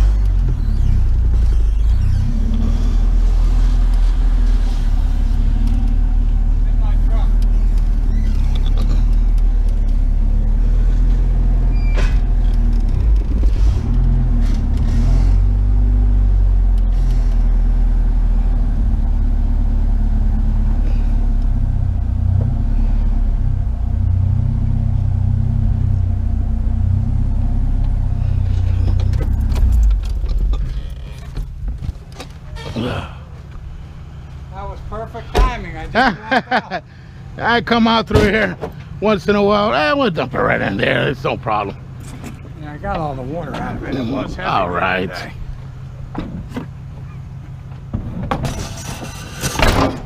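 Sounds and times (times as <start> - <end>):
truck engine rumbling: 0.0 - 50.0.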